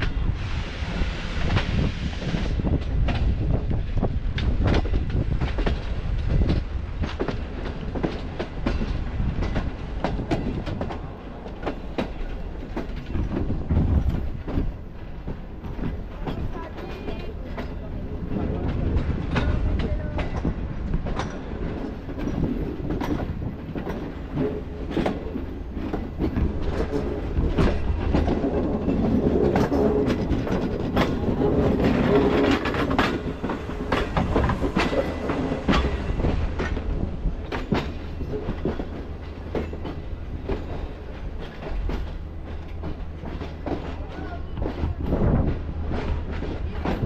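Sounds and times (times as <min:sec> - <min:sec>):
train running gear rumble: 0:00.0 - 0:47.0
wheels clicking over rail joints: 0:02.6 - 0:47.0.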